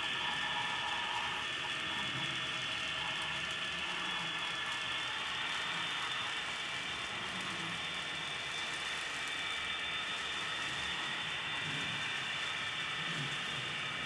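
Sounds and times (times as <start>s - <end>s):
model train wheels whirring on rails: 0.0s - 14.0s.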